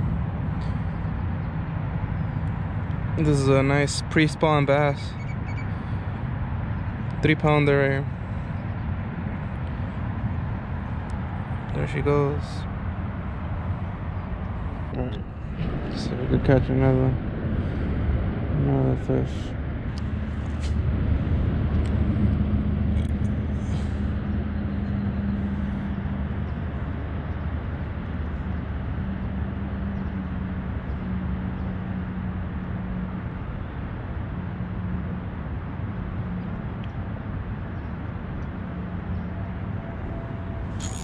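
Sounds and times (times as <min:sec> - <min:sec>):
low hum: 0:00.0 - 0:41.0
low outdoor rumble: 0:00.0 - 0:41.0.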